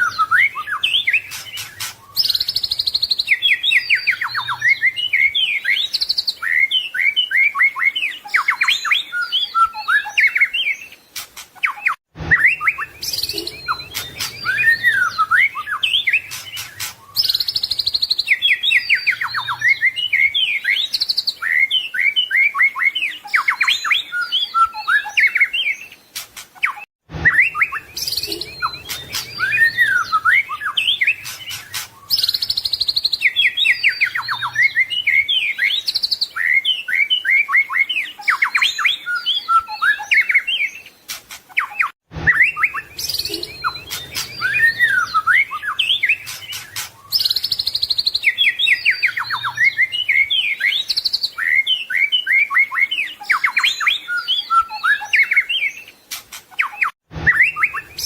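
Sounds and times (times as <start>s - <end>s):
bird singing whistled phrases: 0.0s - 11.0s, 11.6s - 26.0s, 26.6s - 40.9s, 41.5s - 58.0s.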